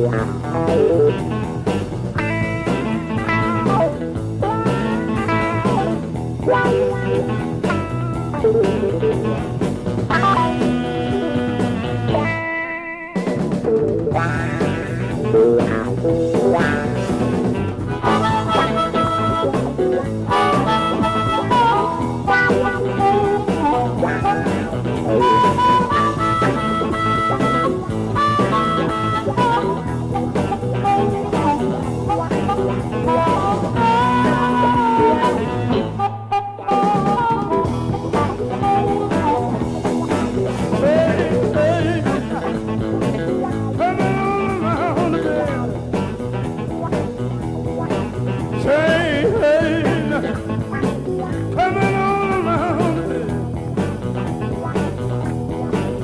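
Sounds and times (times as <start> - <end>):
amplified harmonica solo: 0.0 - 47.0
electric blues band playing: 0.0 - 56.0.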